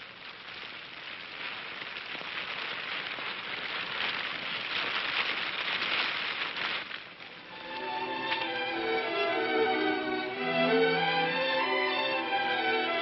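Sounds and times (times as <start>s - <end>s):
rain-like hiss with crackle: 0.0s - 13.0s.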